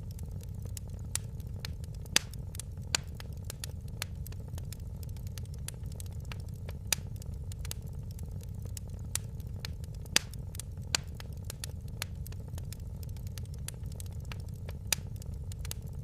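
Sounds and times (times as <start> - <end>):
fire pops: 0.0 - 16.0
low rumble: 0.0 - 16.0
wood fire crackling: 0.0 - 16.0.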